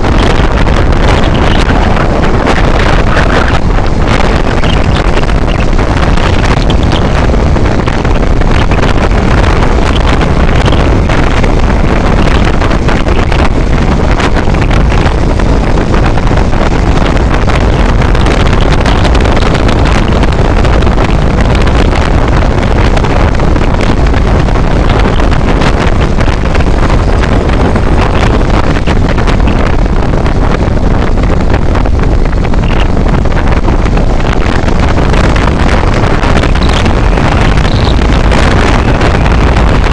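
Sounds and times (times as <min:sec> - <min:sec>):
moving vehicle rumble: 0:00.0 - 0:39.9
wind buffeting microphone: 0:00.0 - 0:39.9.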